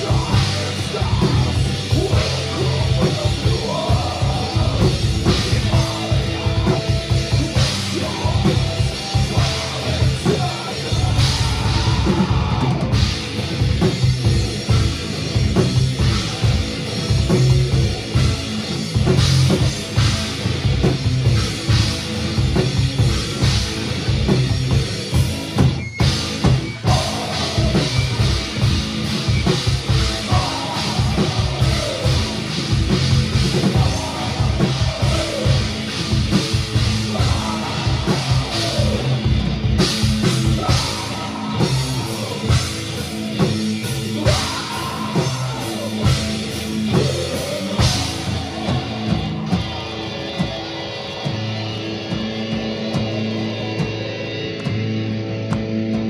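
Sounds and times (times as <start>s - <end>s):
drum kit pounding: 0.0s - 56.0s
rock band playing live: 0.0s - 56.0s.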